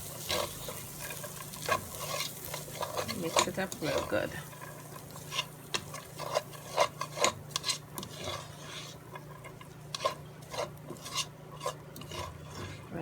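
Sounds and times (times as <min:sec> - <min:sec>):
utensil scraping a pot: 0:00.0 - 0:13.0.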